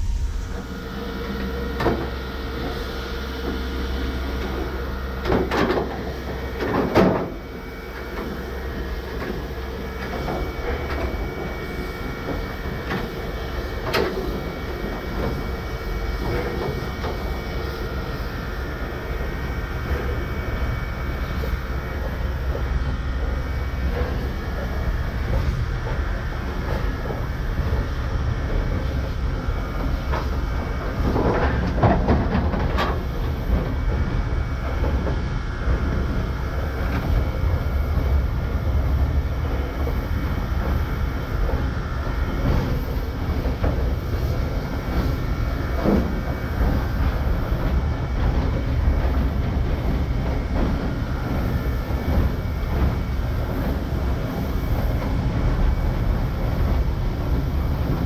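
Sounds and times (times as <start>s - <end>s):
train clanks: 0.0s - 58.0s
train rumbling on track: 0.0s - 58.0s.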